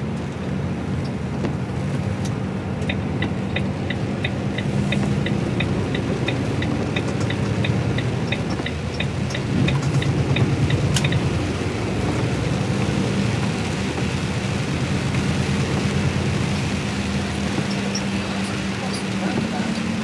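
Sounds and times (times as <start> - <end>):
heavy rain: 0.0 - 20.0
lorry engine drone: 0.0 - 20.0
road noise: 0.0 - 20.0
light regular ticking: 0.2 - 20.0.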